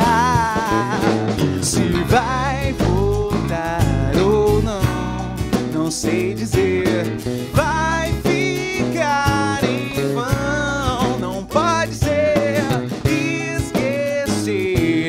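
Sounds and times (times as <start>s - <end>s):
drum kit beats: 0.0s - 15.0s
guitars: 0.0s - 15.0s
man singing: 0.0s - 15.0s.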